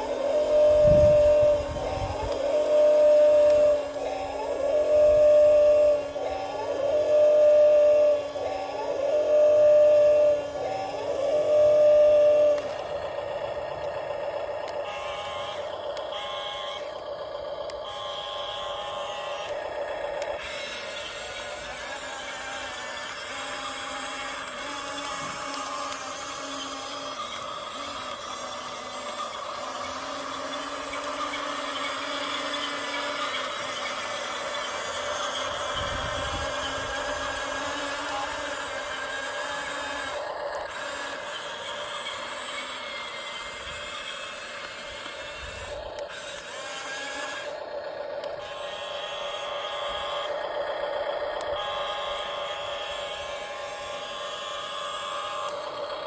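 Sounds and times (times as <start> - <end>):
small electric motors whirring: 0.0 - 56.0.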